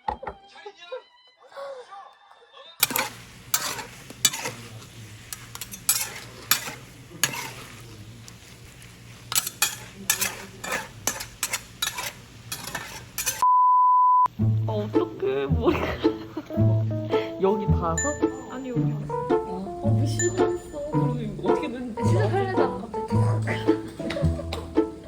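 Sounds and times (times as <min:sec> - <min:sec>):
food sizzling in a pan: 0:02.8 - 0:13.4, 0:14.4 - 0:25.0.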